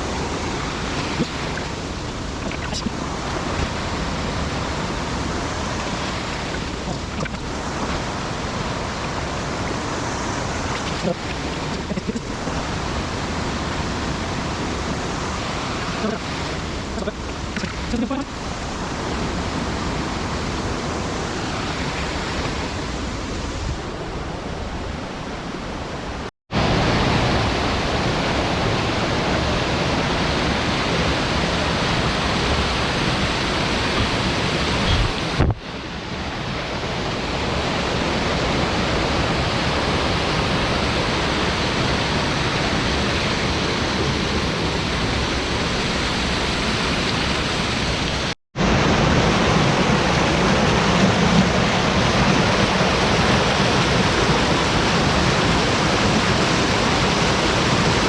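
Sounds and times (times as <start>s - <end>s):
steady rushing outdoor noise: 0.0s - 58.0s.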